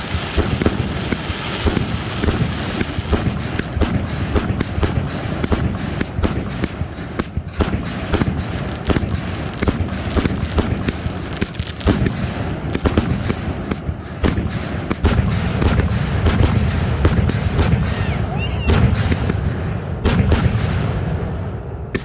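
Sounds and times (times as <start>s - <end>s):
firework cake bangs: 0.0s - 22.0s.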